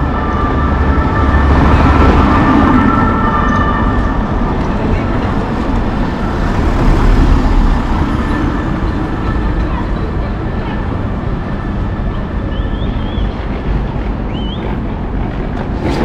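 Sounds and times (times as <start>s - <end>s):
train rumbling through station: 0.0s - 16.0s.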